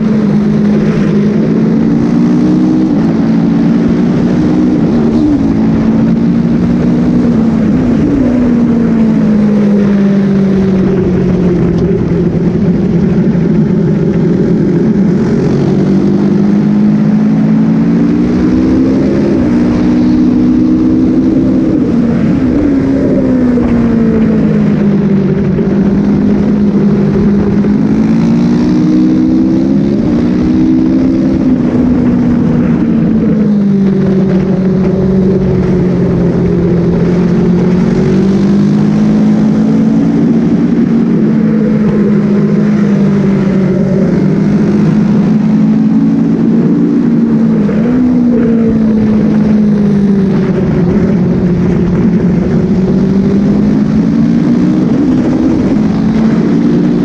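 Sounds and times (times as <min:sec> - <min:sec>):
motorcycle engine at speed: 0:00.0 - 0:57.0
wind rush: 0:00.0 - 0:57.0.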